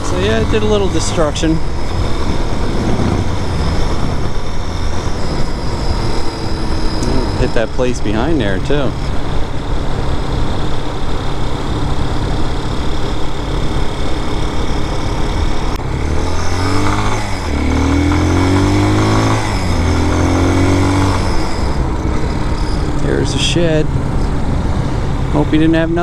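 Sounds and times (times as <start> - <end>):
dirt bike engine running: 0.0 - 26.0
steady rushing noise: 0.0 - 26.0.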